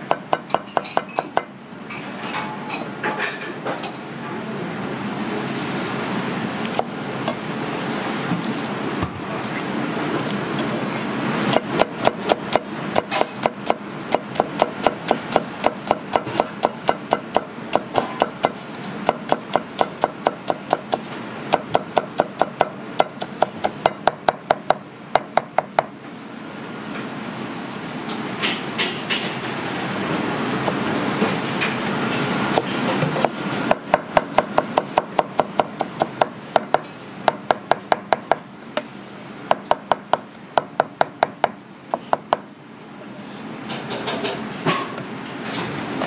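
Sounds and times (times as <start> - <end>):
steady kitchen hiss: 0.0 - 46.0.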